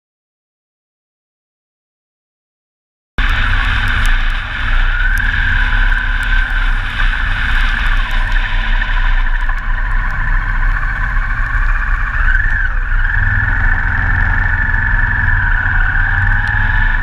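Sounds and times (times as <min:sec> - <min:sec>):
motorcycle engine: 0:03.2 - 0:17.0
wind rumble: 0:03.2 - 0:17.0.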